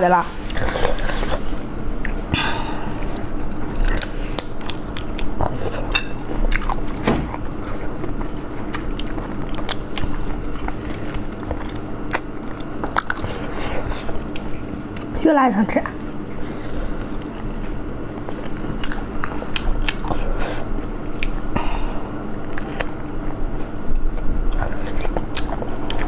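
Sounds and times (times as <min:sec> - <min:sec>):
wet chewing and smacking: 0:00.4 - 0:02.3, 0:02.9 - 0:15.2, 0:15.9 - 0:26.0.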